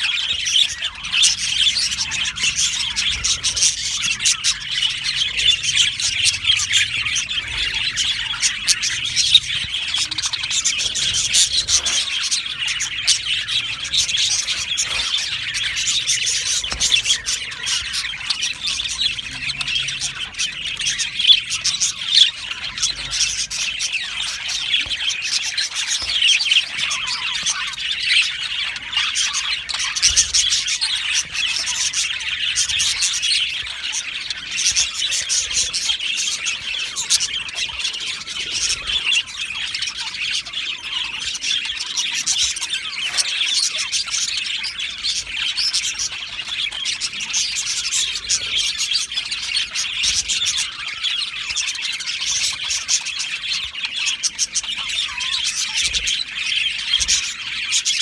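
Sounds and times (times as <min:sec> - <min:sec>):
budgerigars chirping: 0:00.0 - 0:58.0.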